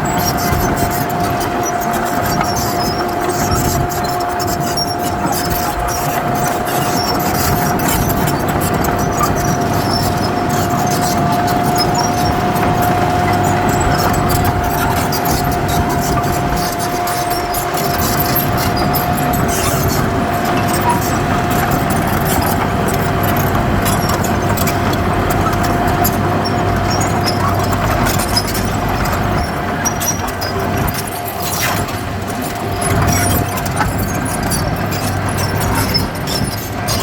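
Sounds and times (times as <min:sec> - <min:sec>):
clicks and rattles: 0:00.0 - 0:37.0
diesel engine running: 0:00.0 - 0:37.0.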